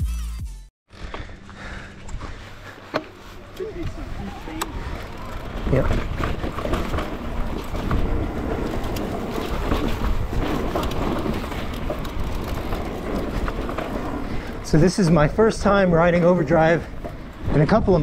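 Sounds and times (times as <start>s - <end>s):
bike clicks and rattles: 0.9s - 18.0s
bike tyres on dirt and gravel: 0.9s - 18.0s
wind buffeting microphone: 3.4s - 18.0s.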